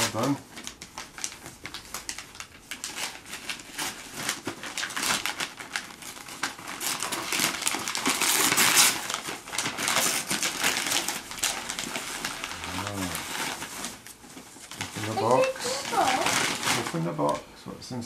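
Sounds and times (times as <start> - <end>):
wrapping paper rustling and tearing: 0.0 - 17.4.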